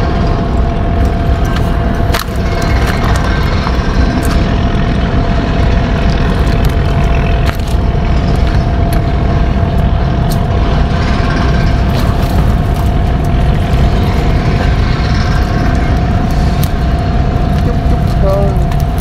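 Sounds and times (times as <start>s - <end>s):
constant whine: 0.0s - 19.0s
heavy machinery rumbling: 0.0s - 19.0s.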